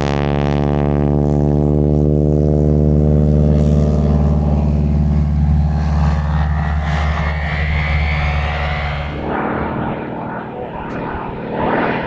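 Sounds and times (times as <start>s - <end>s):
radial engine and propeller: 0.0s - 12.0s.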